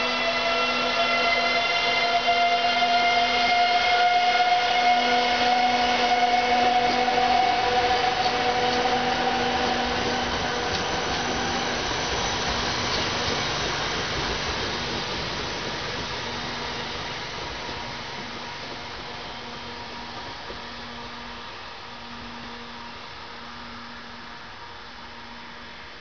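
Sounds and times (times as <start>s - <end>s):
train wheels rumbling on rails: 0.0s - 26.0s
train whine: 0.0s - 26.0s.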